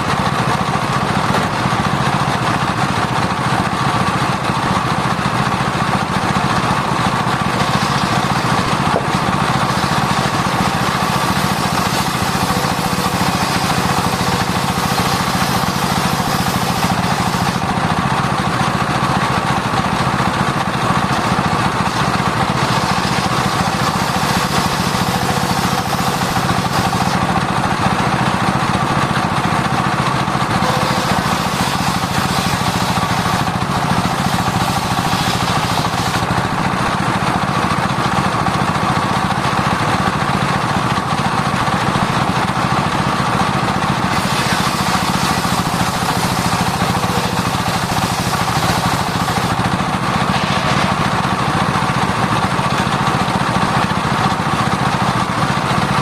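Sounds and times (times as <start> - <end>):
circular saw cutting wood: 0.0 - 53.9.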